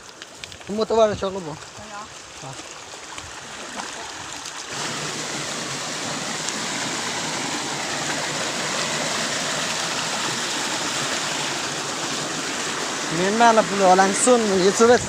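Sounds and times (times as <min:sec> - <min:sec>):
waterfall rushing water: 0:01.4 - 0:15.0.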